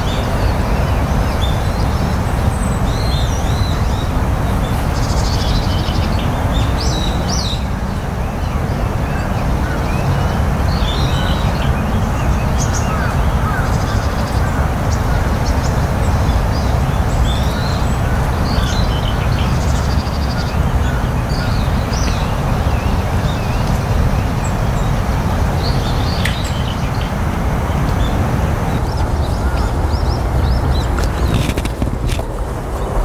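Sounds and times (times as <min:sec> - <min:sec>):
low rushing background noise: 0:00.0 - 0:33.0
small birds chirping: 0:00.0 - 0:33.0.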